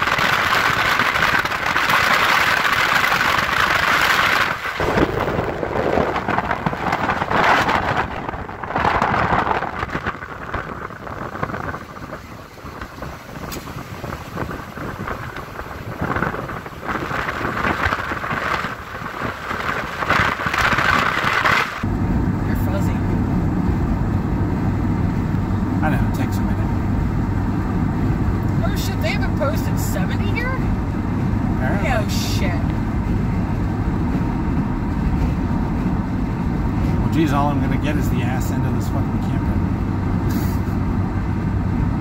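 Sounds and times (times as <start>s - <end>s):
car road and wind noise: 0.0s - 42.0s.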